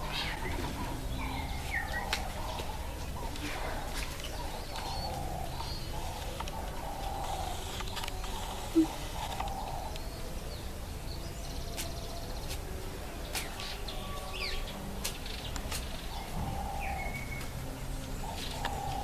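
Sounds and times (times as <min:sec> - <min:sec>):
birds chirping: 0:00.0 - 0:19.0
outdoor background noise: 0:00.0 - 0:19.0.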